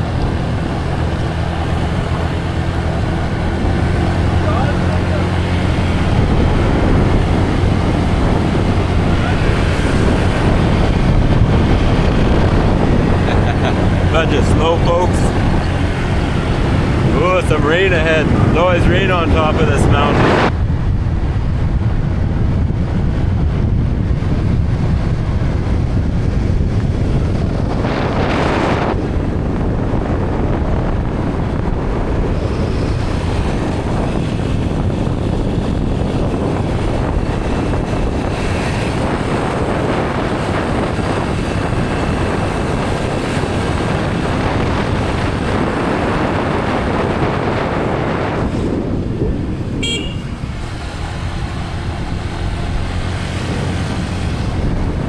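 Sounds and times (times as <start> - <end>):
vehicle driving on road: 0.0 - 55.0
wind buffeting microphone: 0.0 - 55.0.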